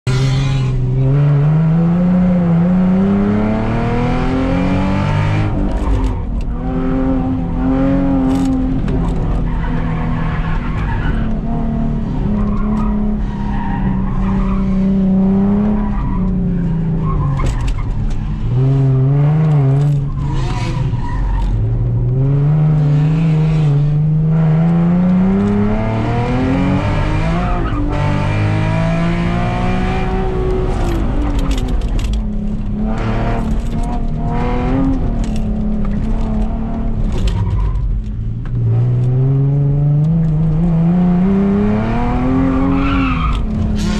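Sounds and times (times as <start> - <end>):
car engine accelerating: 0.1 - 43.9.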